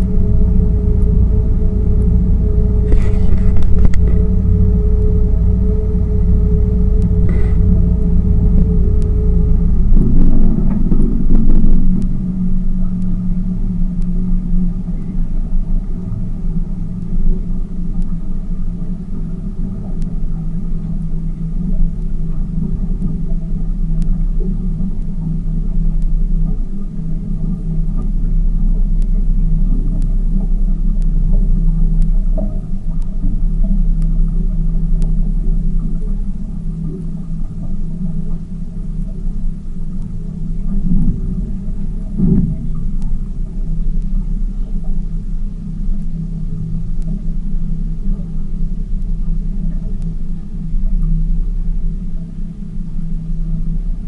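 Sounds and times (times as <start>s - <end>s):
boat motor rumbling: 0.0s - 54.0s.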